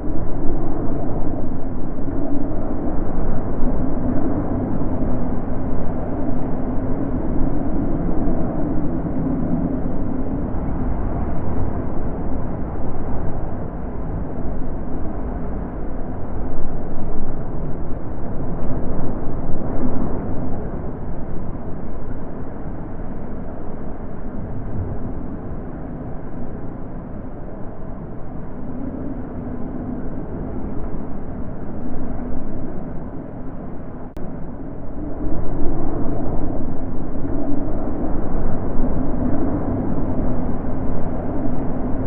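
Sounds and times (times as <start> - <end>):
wind blowing in gusts: 0.0 - 42.0.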